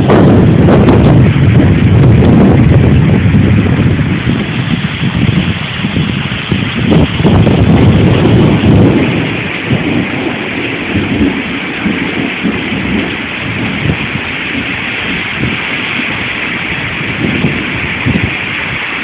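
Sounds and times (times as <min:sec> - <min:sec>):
heavy rain: 0:00.0 - 0:19.0
wind buffeting microphone: 0:00.0 - 0:19.0.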